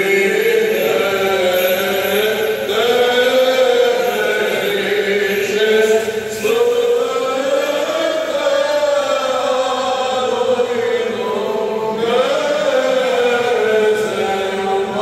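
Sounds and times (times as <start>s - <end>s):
church chant singing: 0.0s - 15.0s.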